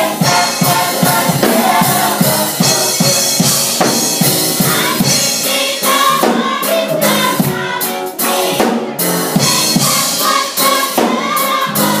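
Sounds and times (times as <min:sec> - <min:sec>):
drum kit: 0:00.0 - 0:12.0
gospel choir singing: 0:00.0 - 0:12.0.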